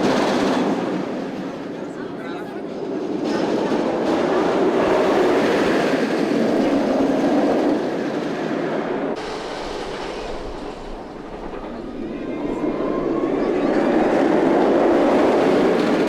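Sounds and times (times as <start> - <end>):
rail wheels rumbling on track: 0.0 - 16.0.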